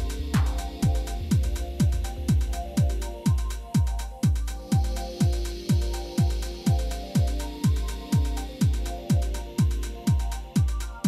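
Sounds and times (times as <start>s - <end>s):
deep kick drum: 0.0s - 11.0s
electronic dance music: 0.0s - 11.0s
hi-hat ticks: 0.0s - 11.0s.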